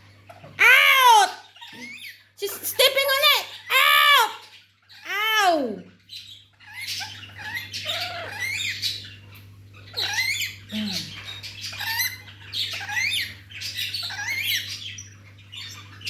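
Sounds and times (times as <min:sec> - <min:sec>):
parrots squawking and chirping: 0:00.0 - 0:16.0.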